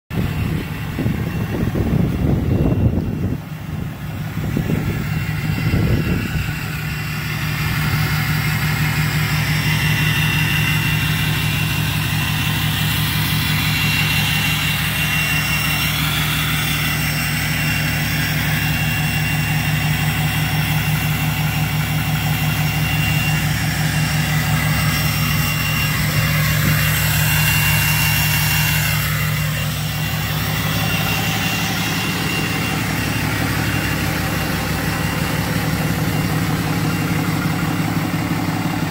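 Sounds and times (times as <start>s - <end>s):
pickup engine idling: 0.1s - 38.9s
thin high whine: 0.3s - 38.9s.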